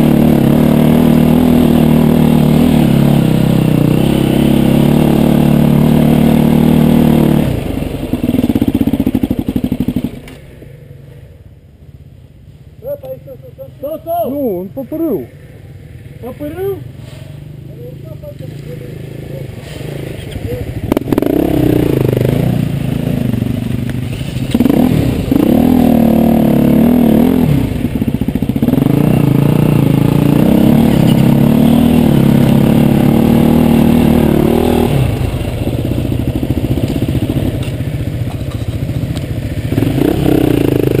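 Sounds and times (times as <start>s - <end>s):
dirt bike engines revving: 0.0s - 10.8s, 12.8s - 41.0s.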